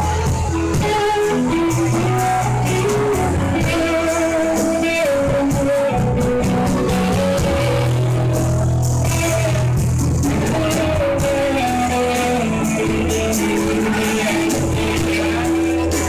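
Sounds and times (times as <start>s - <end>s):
electric bass line: 0.0s - 16.0s
electric guitar lead: 0.0s - 16.0s.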